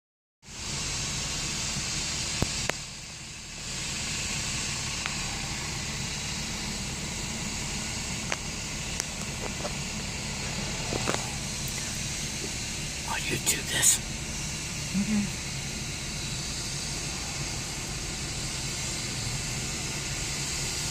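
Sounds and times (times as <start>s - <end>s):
helicopter turbine hiss: 0.5s - 20.9s
helicopter rotor beating: 2.9s - 20.9s.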